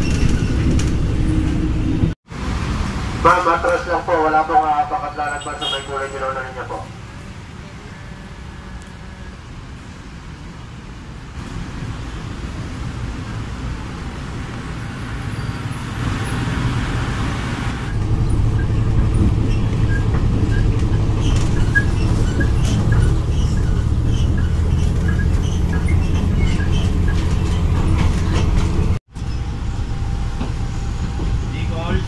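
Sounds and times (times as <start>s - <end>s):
diesel train rumble: 0.0s - 32.0s.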